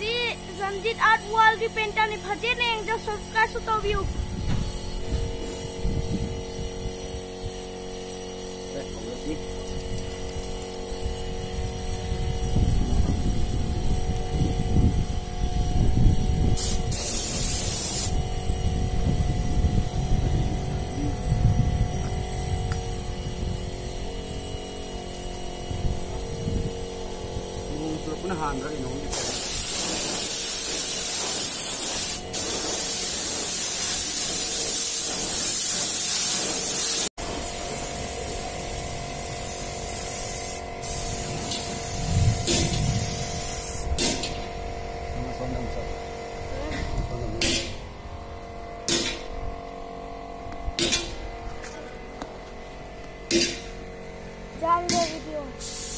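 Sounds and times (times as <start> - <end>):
low hum and rumble: 0.0 - 31.4, 37.2 - 55.7
air spray gun hissing: 0.0 - 45.7, 54.7 - 55.9.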